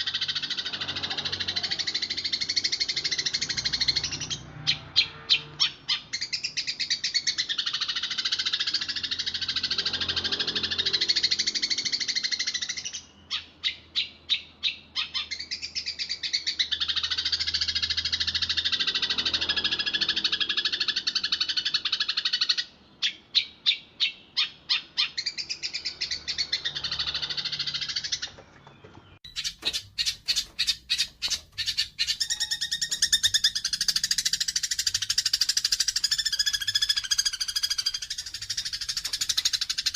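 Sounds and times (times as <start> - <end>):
sparrows chattering: 0.0 - 39.9.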